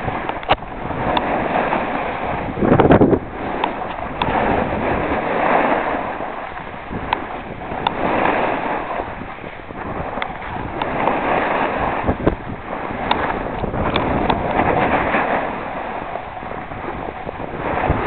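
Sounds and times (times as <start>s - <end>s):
snowboards carving over snow: 0.0s - 18.0s
wind on microphone: 0.0s - 18.0s.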